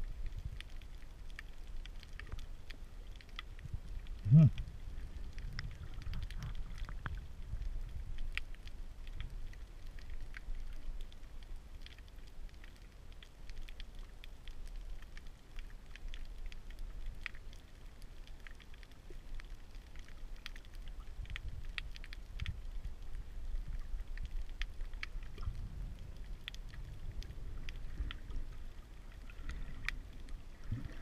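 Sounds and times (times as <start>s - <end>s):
faint clicks and crackles: 0.0s - 31.0s
underwater low rumble: 0.0s - 31.0s.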